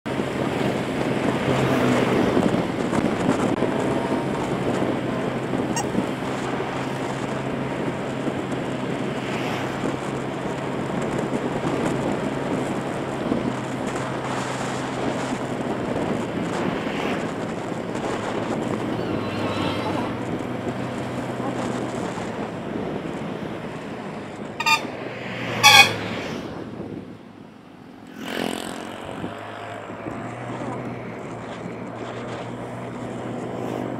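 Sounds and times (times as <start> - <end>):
motorbike engine humming: 0.1 - 33.9
wind rushing over microphone: 0.1 - 33.9.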